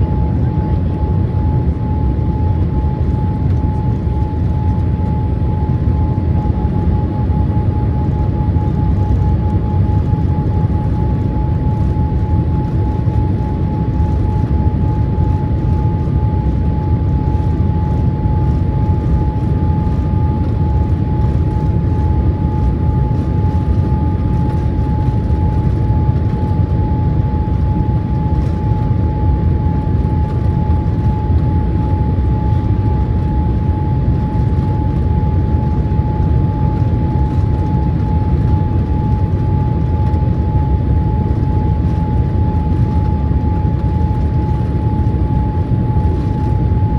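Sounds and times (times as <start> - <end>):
airflow and engines rumbling: 0.0 - 46.9
steady whine: 0.0 - 46.9.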